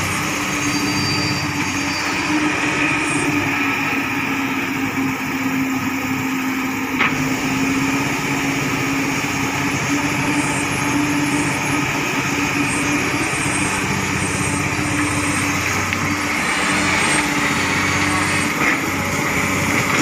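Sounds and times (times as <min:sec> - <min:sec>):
excavator diesel engine under load: 0:00.0 - 0:20.0.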